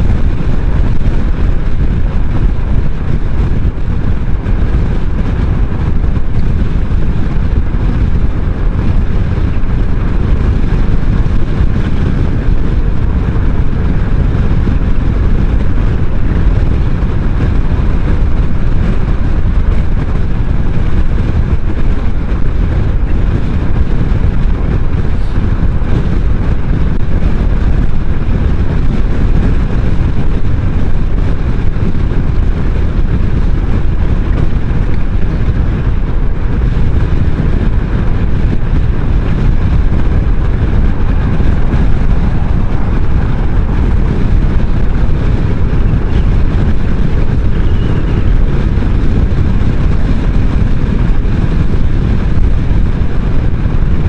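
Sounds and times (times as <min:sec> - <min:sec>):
road noise: 0:00.0 - 0:54.0
scooter engine drone: 0:00.0 - 0:54.0
wind buffeting microphone: 0:00.0 - 0:54.0.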